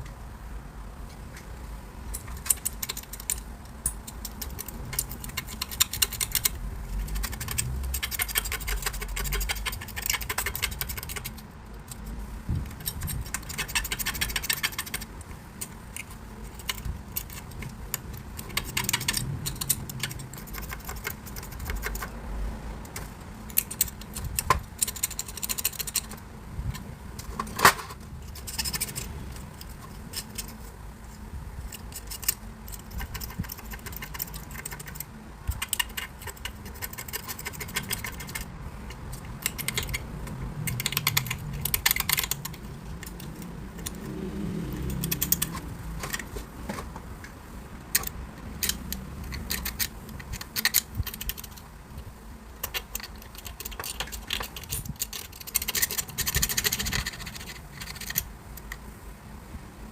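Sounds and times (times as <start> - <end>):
rapid clicking: 2.1 - 22.2, 22.9 - 30.6, 31.7 - 46.4, 47.9 - 51.7, 52.6 - 58.8.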